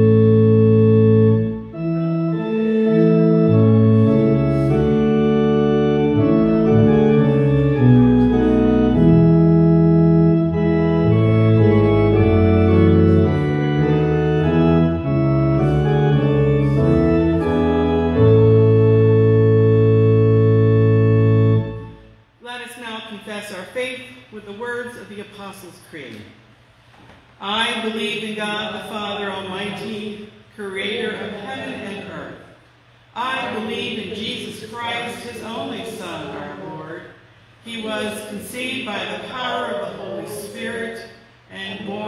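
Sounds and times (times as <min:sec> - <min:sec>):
organ playing hymn chords: 0:00.0 - 0:23.2, 0:27.6 - 0:42.0.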